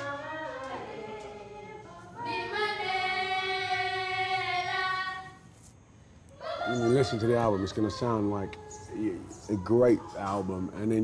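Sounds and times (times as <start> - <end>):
women singing together: 0.0 - 5.5, 6.3 - 11.0.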